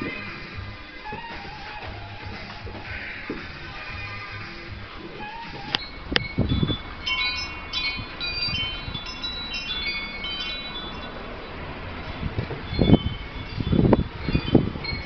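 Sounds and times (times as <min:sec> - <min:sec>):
chimes ringing: 0:00.0 - 0:15.0
low rumble: 0:00.0 - 0:15.0.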